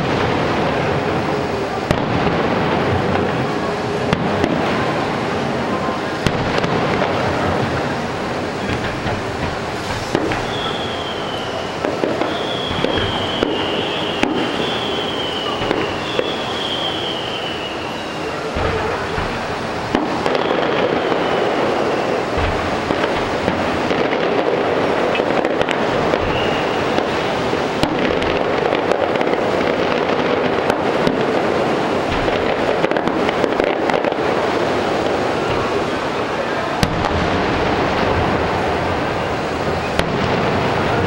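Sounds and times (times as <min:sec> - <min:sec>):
fireworks crackling and rumbling: 0:00.0 - 0:41.0
fireworks pops and bangs: 0:00.0 - 0:41.0.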